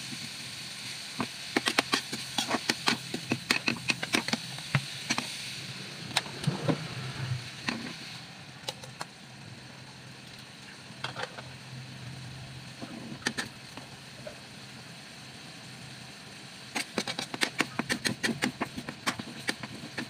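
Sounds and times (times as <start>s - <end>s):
hot oil sizzling in a wok: 0.0s - 20.0s.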